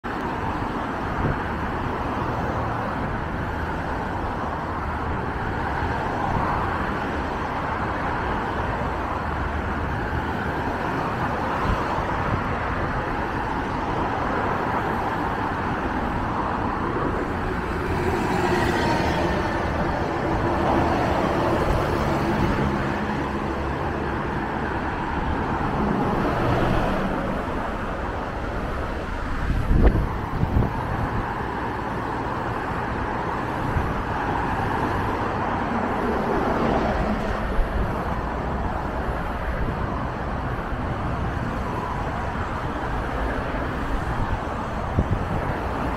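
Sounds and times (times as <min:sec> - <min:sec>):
cars driving past: 0:00.0 - 0:45.9.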